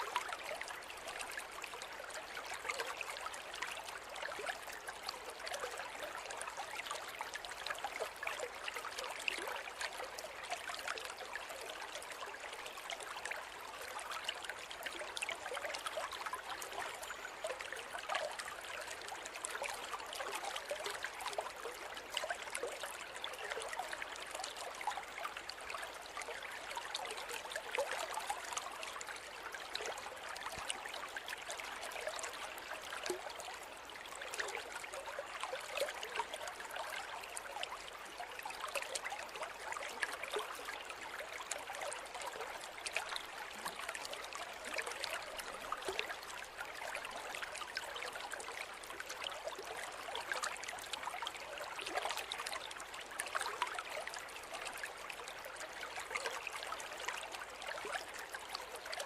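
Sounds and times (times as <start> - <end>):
shallow river trickling over rocks: 0.0 - 59.0.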